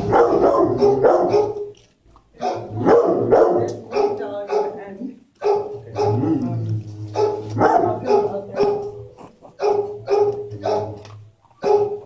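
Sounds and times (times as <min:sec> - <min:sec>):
dog barking: 0:00.0 - 0:01.7, 0:02.4 - 0:06.3, 0:07.1 - 0:12.0.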